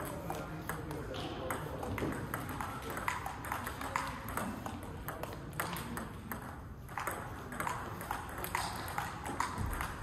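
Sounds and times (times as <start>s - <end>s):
table tennis ball ticking: 0.0s - 10.0s.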